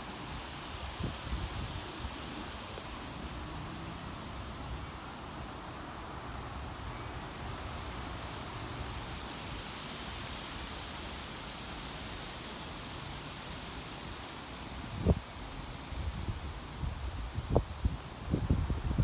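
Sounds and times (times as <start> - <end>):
gusty wind through trees: 0.0 - 19.0.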